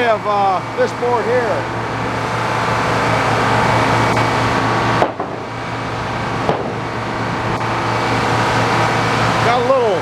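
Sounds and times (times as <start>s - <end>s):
sawmill engine running: 0.0s - 10.0s.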